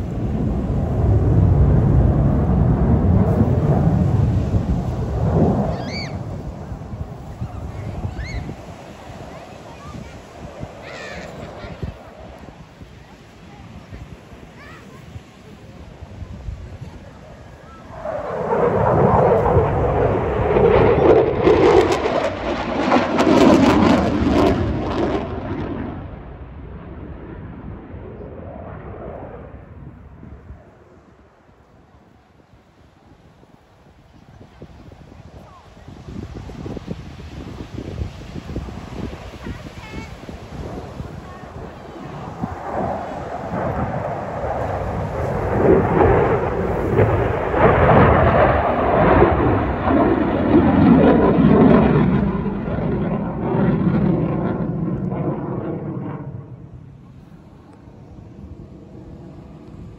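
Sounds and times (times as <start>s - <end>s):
jet afterburner roar: 0.0s - 32.2s, 34.2s - 59.9s.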